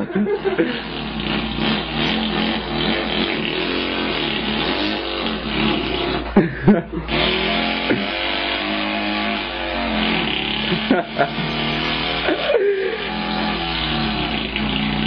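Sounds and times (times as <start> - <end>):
man imitating engine sound: 0.0 - 15.0.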